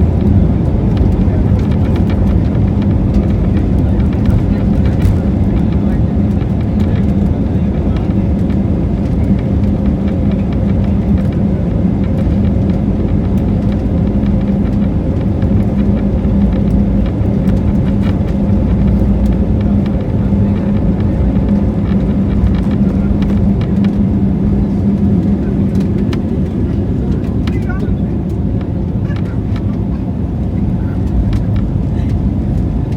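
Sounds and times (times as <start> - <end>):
constant low hum: 0.0 - 32.9
jet engine drone: 0.0 - 32.9.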